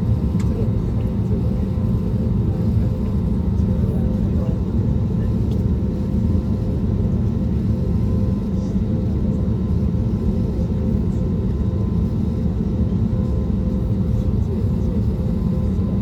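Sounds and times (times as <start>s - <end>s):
aircraft cabin engine rumble: 0.0s - 16.0s.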